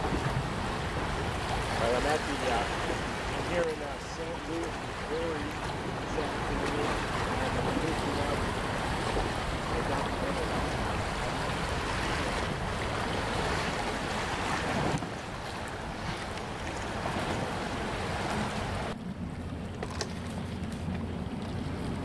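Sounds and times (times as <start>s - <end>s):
river water washing: 0.0s - 22.0s
wind buffeting the microphone: 0.0s - 22.0s.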